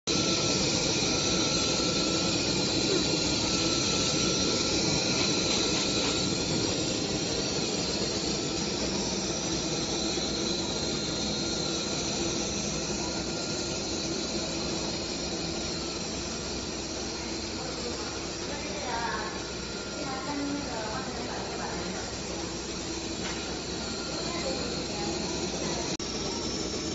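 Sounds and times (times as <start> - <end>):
laser cutting machine hissing: 0.1 - 26.9.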